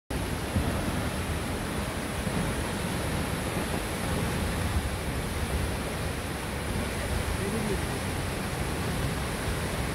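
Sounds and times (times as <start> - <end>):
waterfall rushing: 0.1 - 9.9.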